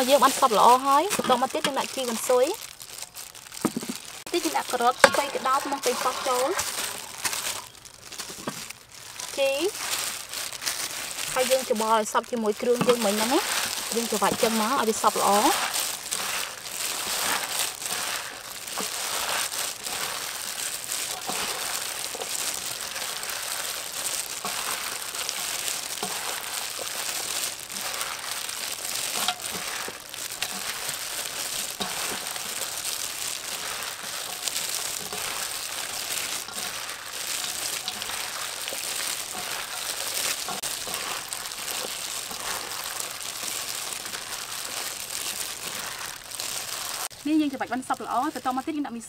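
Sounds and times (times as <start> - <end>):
plastic gloves crinkling: 0.0 - 49.0.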